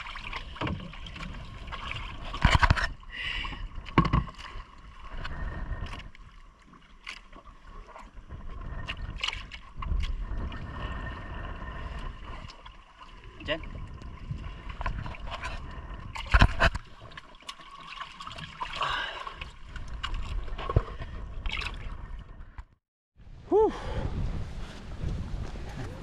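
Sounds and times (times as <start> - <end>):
water sloshing in boat hull: 0.0 - 22.8.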